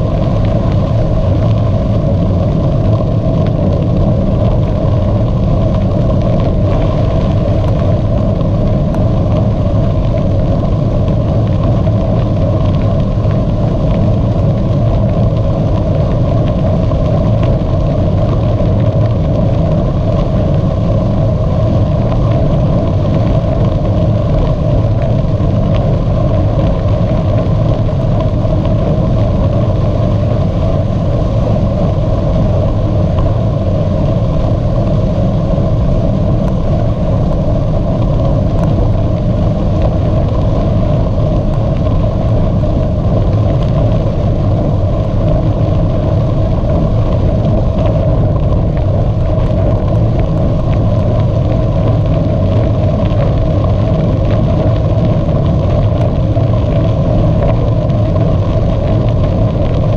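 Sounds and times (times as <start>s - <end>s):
bicycle rolling noise: 0.0s - 59.9s
wind rumble on microphone: 0.0s - 59.9s.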